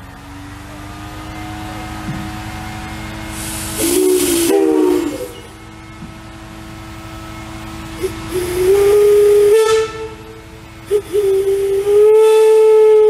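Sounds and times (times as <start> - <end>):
steam whistle blasts: 1.4 - 6.1, 7.1 - 13.0.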